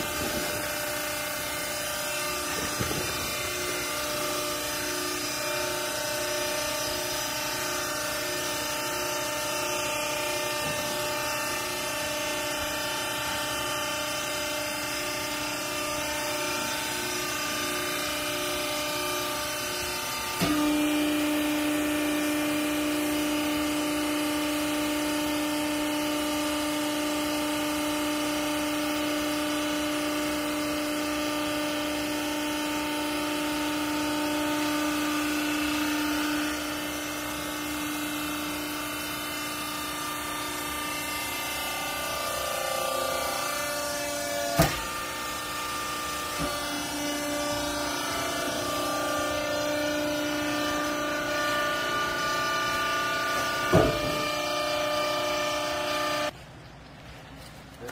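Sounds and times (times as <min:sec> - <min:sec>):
hydraulic machine humming and whining: 0:00.0 - 0:56.4.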